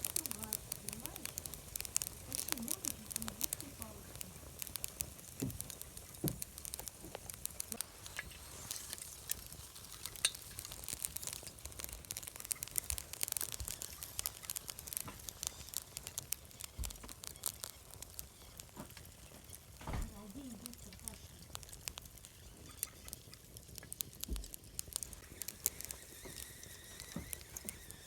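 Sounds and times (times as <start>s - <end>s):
steady hiss: 0.0s - 28.0s
wood fire crackling and popping: 0.0s - 28.0s.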